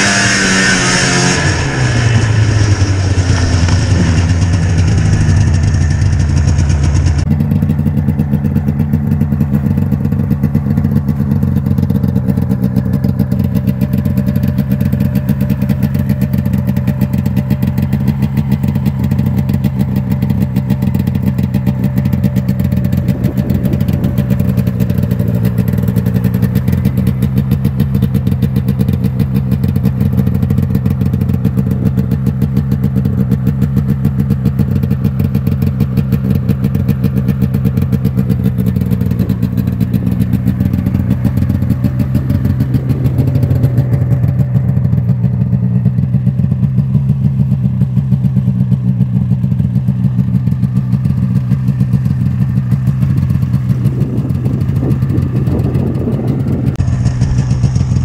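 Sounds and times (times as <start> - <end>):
snowmobile engine idling: 0.0 - 58.0.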